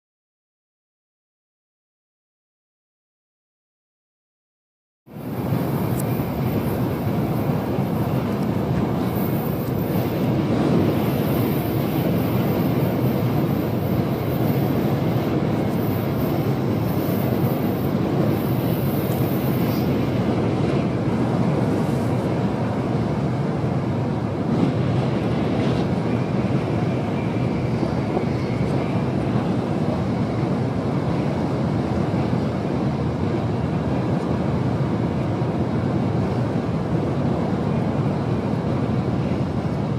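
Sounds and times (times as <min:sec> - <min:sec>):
train rumbling roar: 0:05.1 - 0:39.9.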